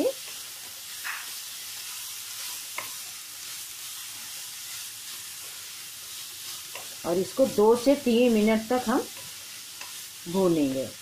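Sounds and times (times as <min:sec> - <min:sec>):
carrots sizzling in hot fat: 0:00.0 - 0:11.0.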